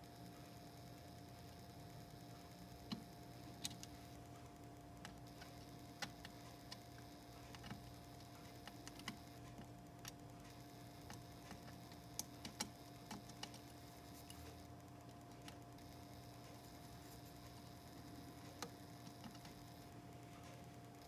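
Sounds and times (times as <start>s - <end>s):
faint steady test tone: 0.0s - 21.0s.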